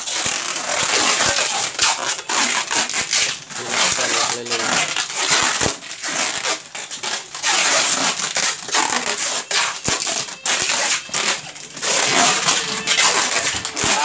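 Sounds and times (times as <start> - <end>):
plastic containers crinkling: 0.0 - 14.0.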